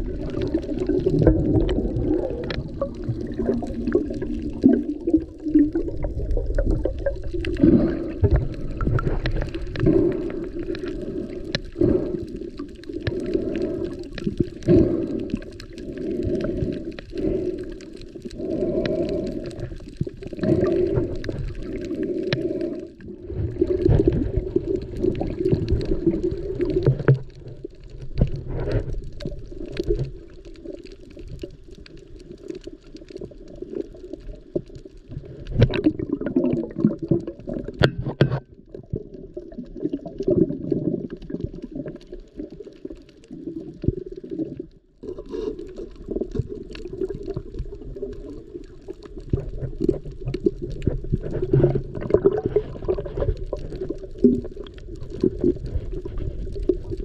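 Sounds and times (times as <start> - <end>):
water churning underwater: 0.0 - 57.0.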